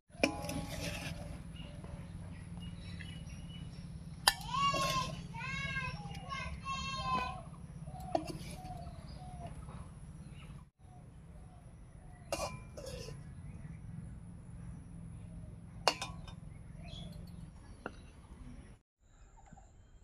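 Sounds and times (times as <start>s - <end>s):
low hum: 0.1s - 18.8s.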